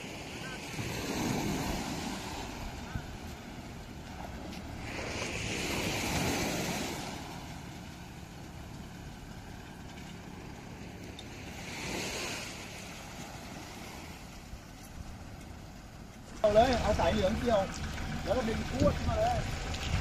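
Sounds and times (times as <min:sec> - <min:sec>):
low engine hum: 0:00.0 - 0:20.0
small sea waves washing: 0:00.0 - 0:20.0.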